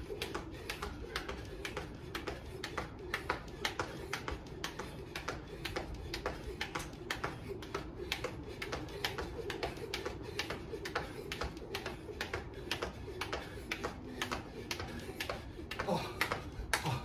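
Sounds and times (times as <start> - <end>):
jump rope slapping concrete: 0.0 - 17.0.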